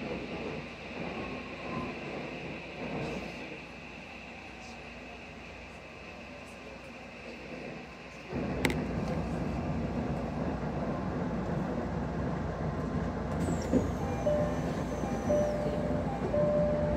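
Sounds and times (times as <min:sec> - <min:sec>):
train rumble and hum: 0:00.0 - 0:16.9.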